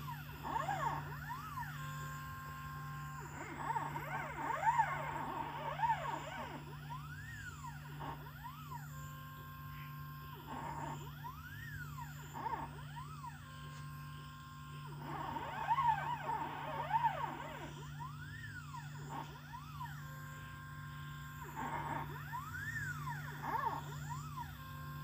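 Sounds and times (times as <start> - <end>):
steady low hum: 0.0 - 25.0
stepper motors whining: 0.0 - 25.0.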